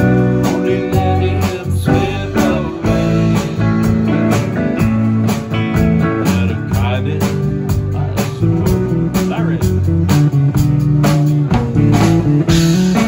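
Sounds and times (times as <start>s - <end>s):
drum kit beat: 0.0s - 13.0s
electric and acoustic guitars: 0.0s - 13.0s.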